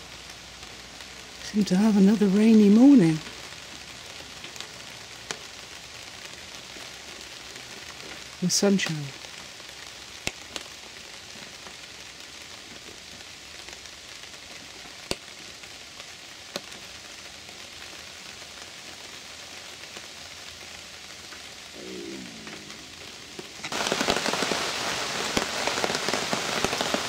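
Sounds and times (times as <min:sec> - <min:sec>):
rain falling in woodland: 0:00.0 - 0:27.0.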